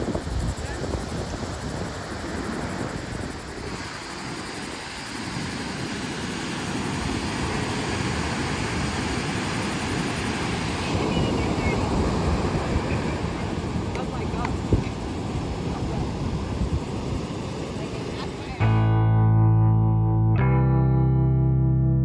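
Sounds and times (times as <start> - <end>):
ocean surf breaking on sand: 0.0 - 18.6
wind buffeting microphone: 0.0 - 18.7.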